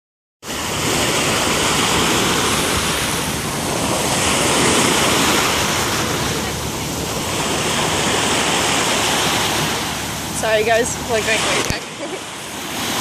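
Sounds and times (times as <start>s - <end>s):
small waves breaking: 0.4s - 13.0s
wind buffeting microphone: 0.4s - 13.0s.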